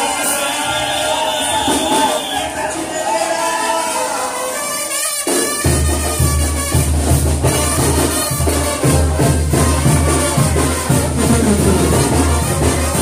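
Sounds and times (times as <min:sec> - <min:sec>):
loud festive music with drums: 0:00.0 - 0:13.0.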